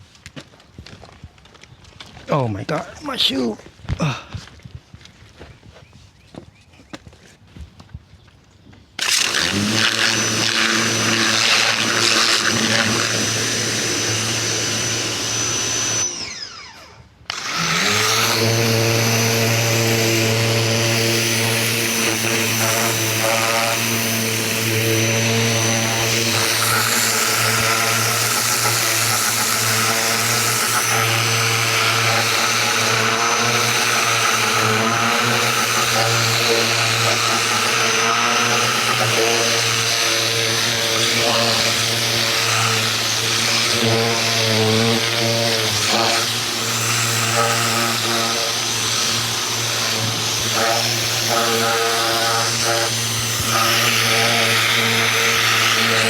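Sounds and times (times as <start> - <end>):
pressure washer running: 9.0 - 56.0.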